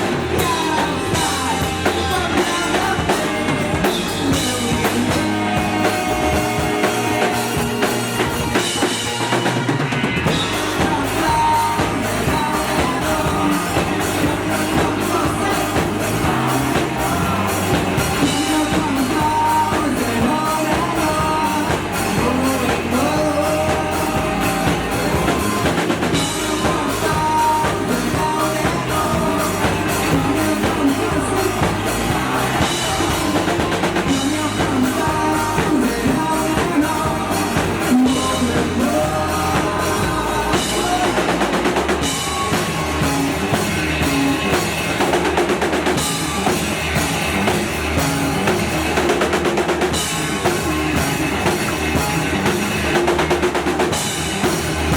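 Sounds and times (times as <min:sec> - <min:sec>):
person singing: 0:00.0 - 0:09.0, 0:10.2 - 0:46.7
drum kit steady beat: 0:00.0 - 0:54.9
electric guitars: 0:00.0 - 0:54.9.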